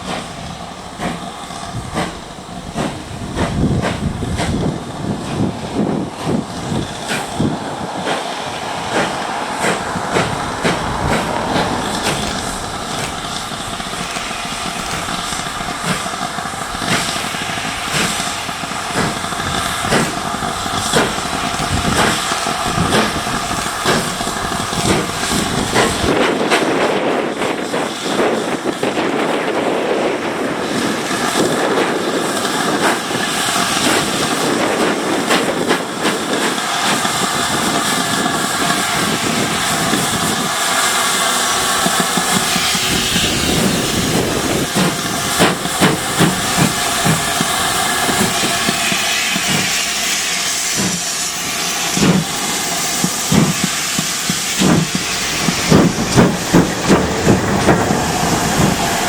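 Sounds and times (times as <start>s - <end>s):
rhythmic exhaust beats: 0.0s - 26.7s, 32.4s - 59.0s
steam engine hissing: 0.0s - 59.0s.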